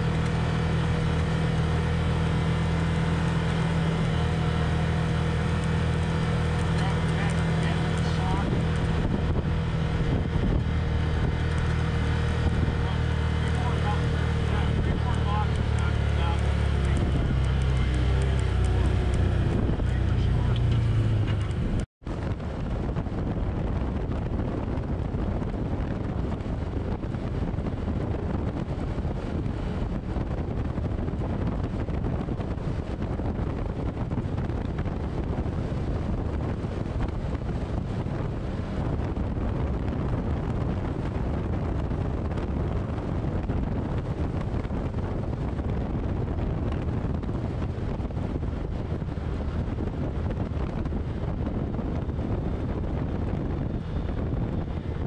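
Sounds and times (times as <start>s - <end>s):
vehicle engine: 0.0s - 55.0s
wind buffeting microphone: 0.0s - 55.0s.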